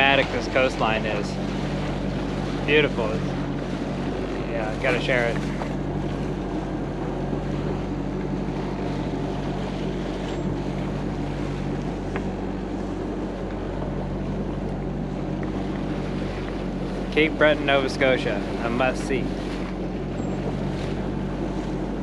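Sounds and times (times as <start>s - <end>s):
diesel engine humming: 0.0s - 22.0s
water noise: 0.0s - 22.0s
wind: 0.0s - 22.0s.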